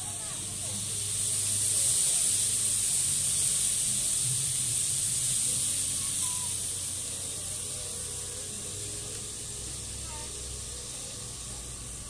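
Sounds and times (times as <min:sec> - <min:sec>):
water hissing on hot griddle: 0:00.0 - 0:12.0.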